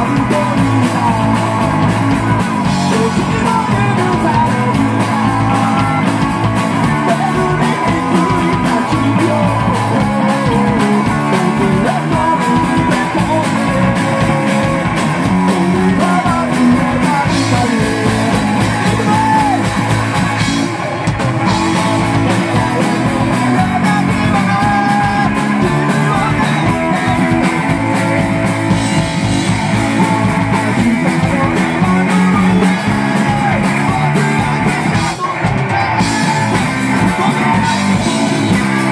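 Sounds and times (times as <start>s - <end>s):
drum kit: 0.0s - 38.9s
electric bass: 0.0s - 38.9s
electric guitar: 0.0s - 38.9s
person singing: 0.0s - 38.9s.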